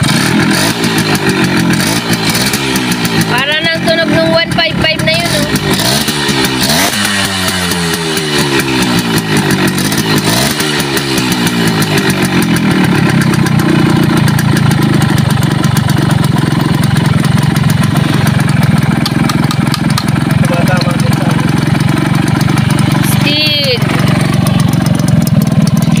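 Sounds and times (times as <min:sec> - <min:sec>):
motorcycle engine revving and idling: 0:00.0 - 0:26.0.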